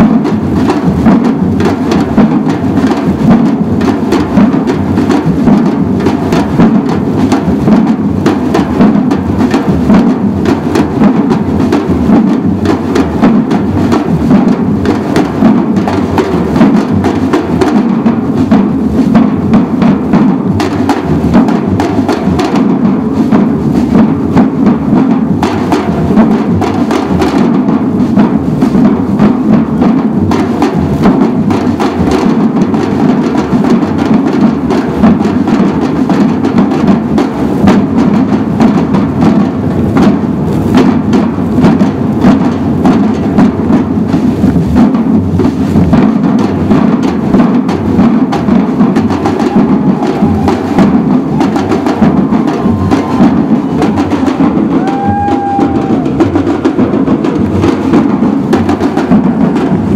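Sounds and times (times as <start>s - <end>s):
drum group playing: 0.0s - 59.9s.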